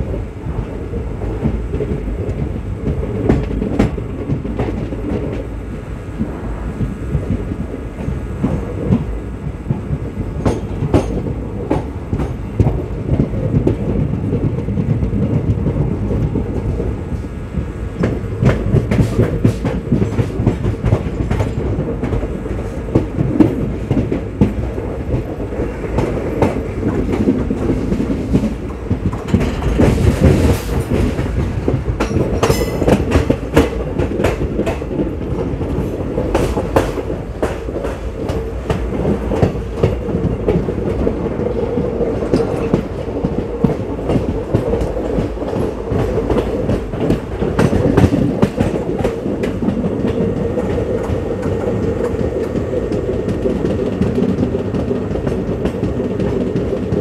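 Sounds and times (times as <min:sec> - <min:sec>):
train rumble: 0:00.0 - 0:57.0
wheels clicking over rail joints: 0:06.2 - 0:57.0.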